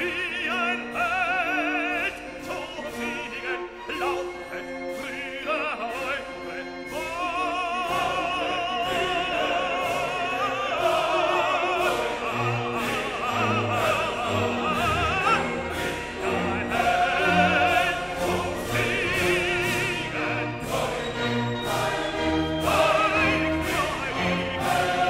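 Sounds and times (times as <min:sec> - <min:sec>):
operatic singing with orchestra: 0:00.0 - 0:25.0.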